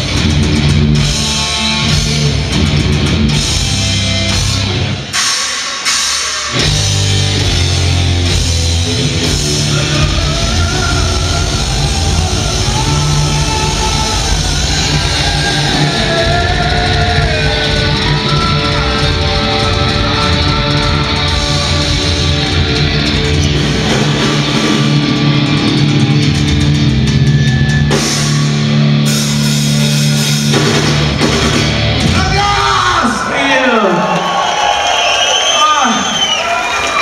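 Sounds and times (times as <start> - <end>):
live heavy metal band playing: 0.0 - 34.1.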